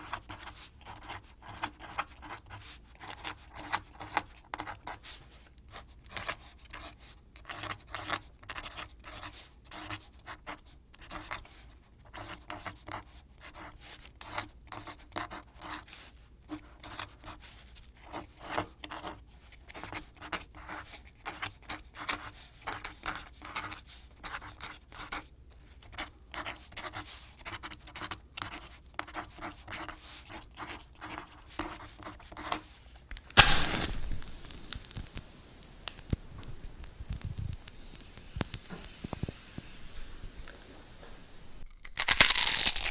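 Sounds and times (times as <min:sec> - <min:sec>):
small clicks and scratches: 0:00.0 - 0:39.7.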